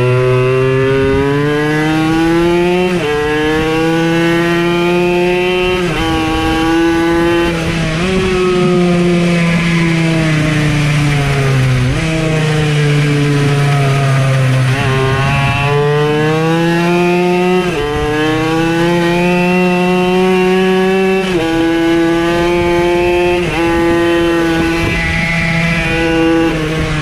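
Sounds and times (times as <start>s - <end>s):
motorcycle engine pulling hard: 0.0s - 27.0s.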